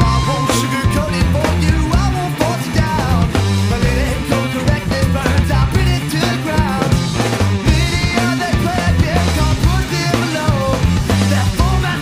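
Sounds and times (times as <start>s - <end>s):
bass guitar: 0.0s - 12.0s
drum kit: 0.0s - 12.0s
electric guitar: 0.0s - 12.0s.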